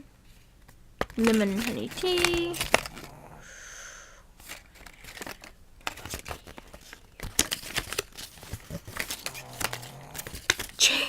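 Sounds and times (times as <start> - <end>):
plastic packaging crinkling: 1.0 - 3.3, 4.4 - 11.0.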